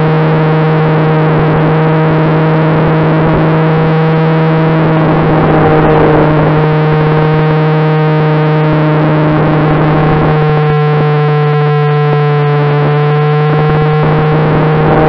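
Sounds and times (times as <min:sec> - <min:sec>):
steady low drone: 0:00.0 - 0:15.0
sustained held music tones: 0:00.0 - 0:15.0.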